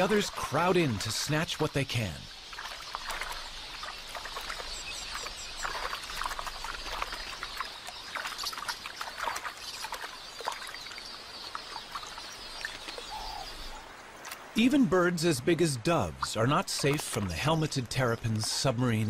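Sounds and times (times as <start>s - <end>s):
shallow water splashing: 0.0s - 19.0s
small birds twittering: 0.0s - 19.0s.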